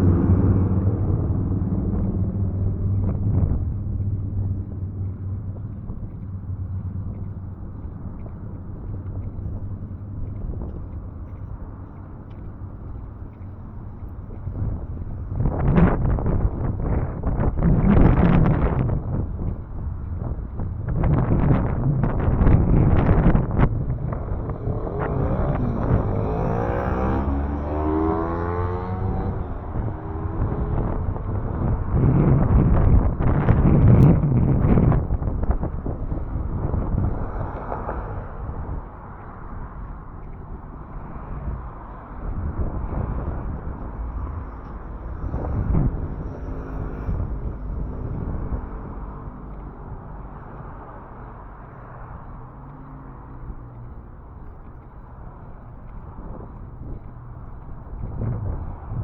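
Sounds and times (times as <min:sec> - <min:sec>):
traffic rumble: 0:00.0 - 0:59.0
vehicle passing close: 0:00.0 - 0:59.0
wind noise on microphone: 0:00.0 - 0:59.0.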